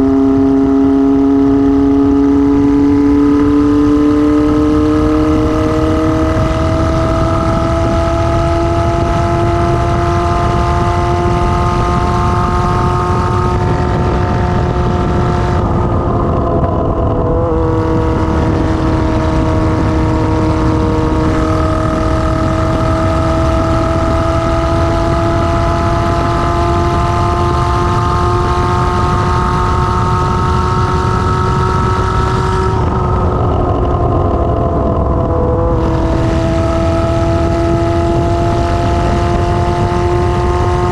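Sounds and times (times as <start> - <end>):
unmuffled motorcycle engine: 0.0 - 40.9.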